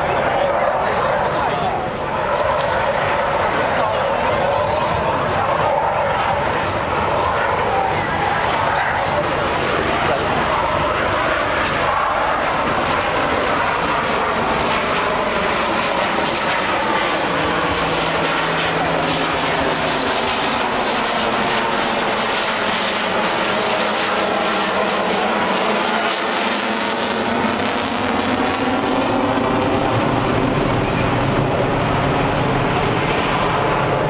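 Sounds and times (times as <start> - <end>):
jet and helicopter flying overhead: 0.0 - 34.0.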